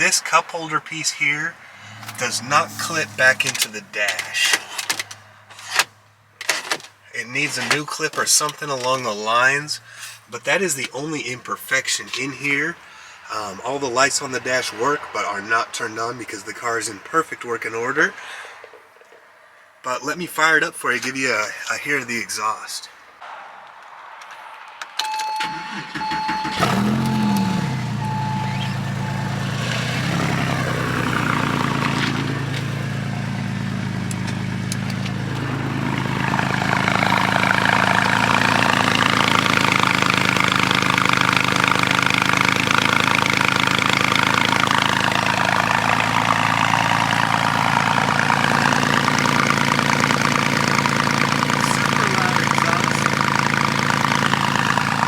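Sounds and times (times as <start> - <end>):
car engine starting and idling: 0.0 - 19.6, 21.8 - 55.0.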